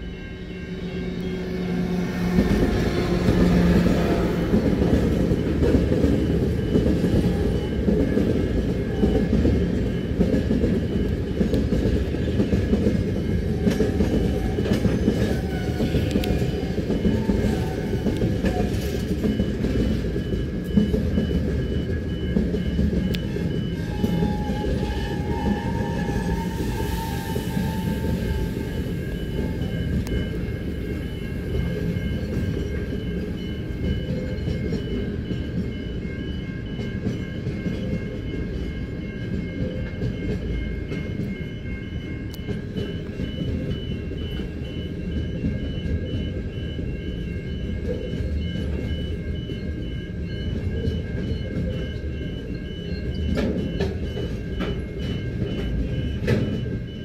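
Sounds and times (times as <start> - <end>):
level crossing warning bell: 0.0 - 57.0
freight train wheels clattering: 1.1 - 57.0.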